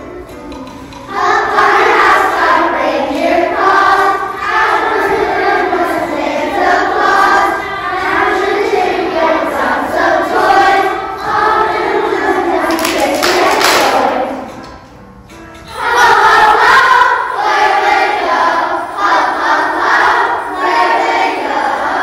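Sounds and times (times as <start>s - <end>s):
children's choir singing: 0.0s - 22.0s.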